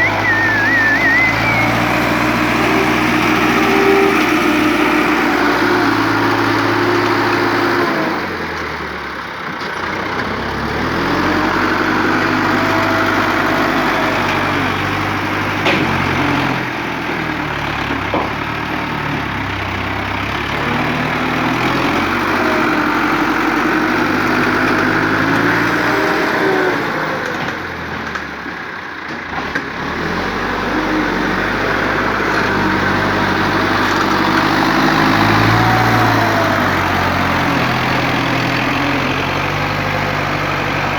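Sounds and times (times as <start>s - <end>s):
vehicle engine under load: 0.0s - 40.9s.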